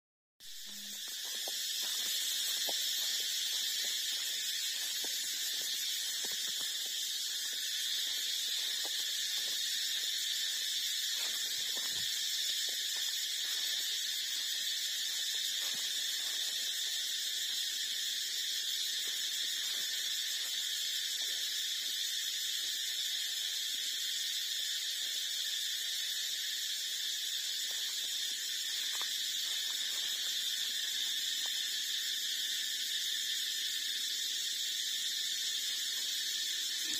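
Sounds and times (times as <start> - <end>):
high-pitched insect chorus: 0.4 - 36.9.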